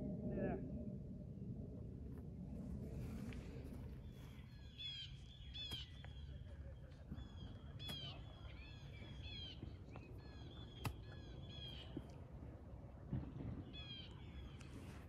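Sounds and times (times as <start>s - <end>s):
steady low rumble: 0.0s - 15.0s
birds chirping: 2.8s - 15.0s.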